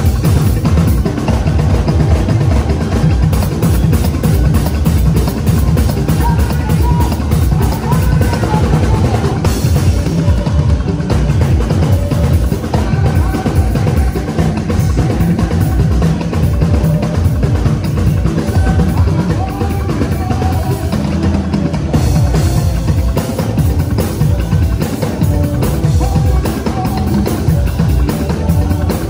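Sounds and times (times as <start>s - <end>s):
drum kit groove: 0.0s - 29.0s
live band music: 0.0s - 29.0s
talking drum: 0.0s - 29.0s.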